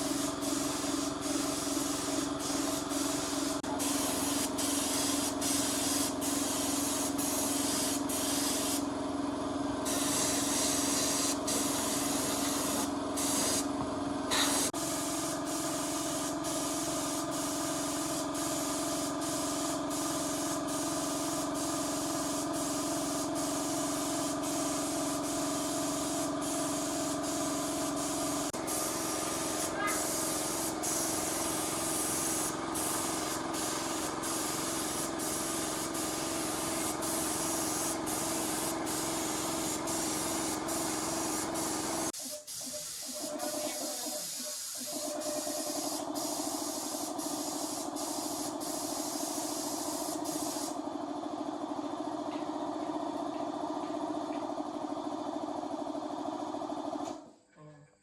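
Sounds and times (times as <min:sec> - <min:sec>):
pressurised spray hissing: 0:00.0 - 0:08.8, 0:09.9 - 0:13.7, 0:14.3 - 0:50.8.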